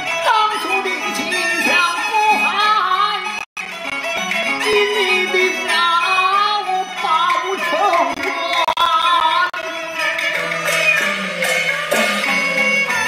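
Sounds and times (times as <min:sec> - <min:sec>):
bowed fiddle: 0:00.0 - 0:13.0.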